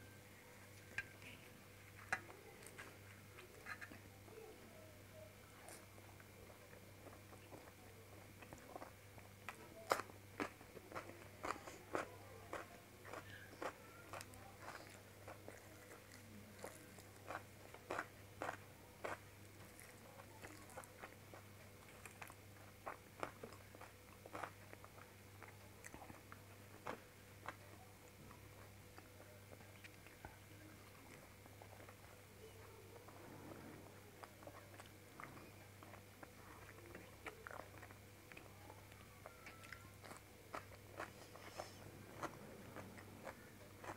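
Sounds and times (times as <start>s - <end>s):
faint steady hum: 0.0s - 43.9s
mouth clicks chewing food: 5.2s - 43.9s.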